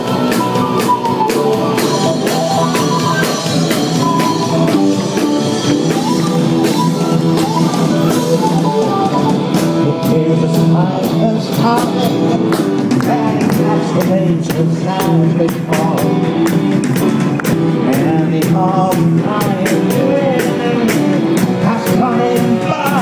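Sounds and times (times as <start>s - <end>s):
drums steady beat: 0.0s - 23.0s
pitch-bending lead melody: 0.0s - 23.0s
sustained bass: 0.0s - 23.0s.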